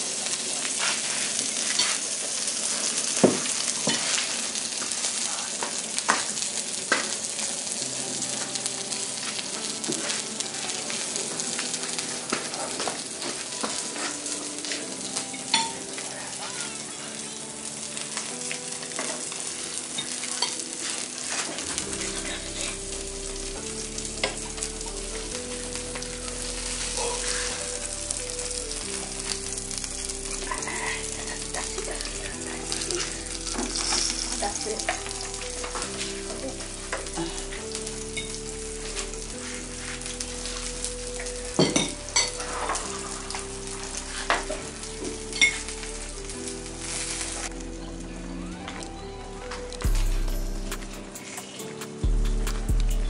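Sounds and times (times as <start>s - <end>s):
food sizzling in a frying pan: 0.0s - 53.0s
soft melody with bass line: 7.3s - 53.0s.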